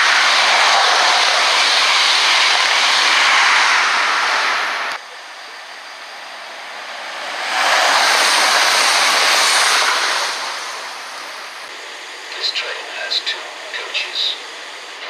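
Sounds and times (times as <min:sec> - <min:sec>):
train passing on tracks: 0:00.0 - 0:15.0.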